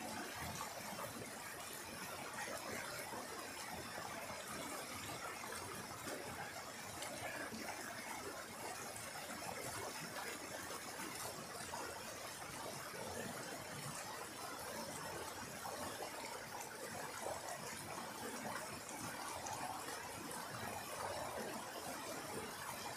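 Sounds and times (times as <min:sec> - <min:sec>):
mountain stream rushing over rocks: 0:00.0 - 0:22.9.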